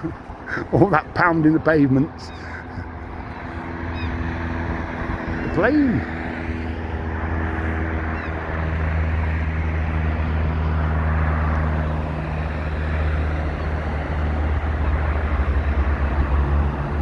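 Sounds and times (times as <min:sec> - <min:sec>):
aeroplane engine drone: 0:00.0 - 0:17.0.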